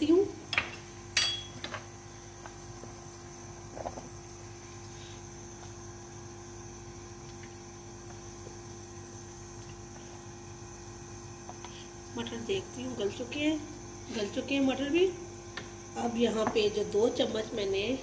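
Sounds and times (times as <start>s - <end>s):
soup boiling hiss: 2.0s - 17.2s.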